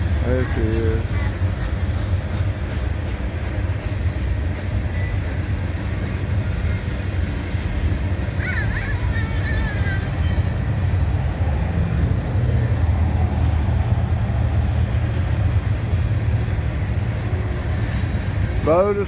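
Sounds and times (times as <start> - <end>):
freight train rumbling on rails: 0.0 - 19.0.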